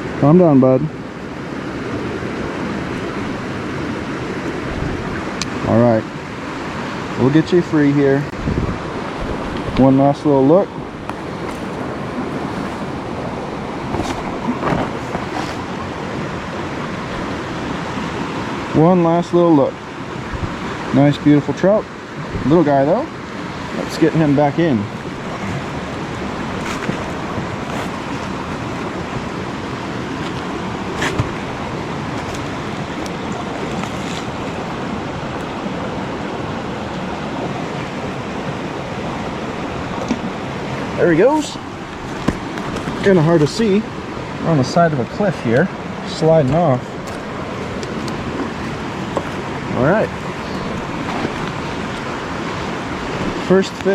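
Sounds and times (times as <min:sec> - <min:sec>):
creek water rushing: 0:00.0 - 0:53.9.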